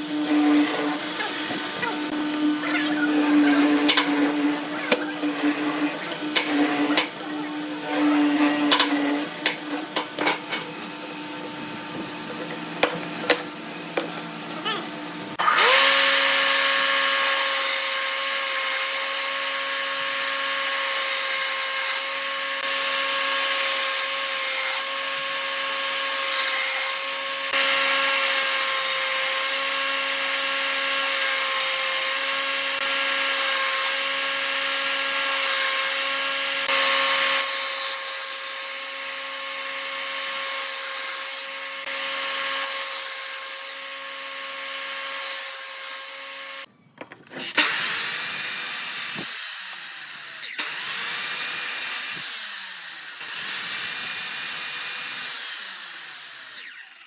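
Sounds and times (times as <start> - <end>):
wood being cut or sanded: 0.0 - 46.7, 47.3 - 57.0
electric power tool running: 0.0 - 57.0.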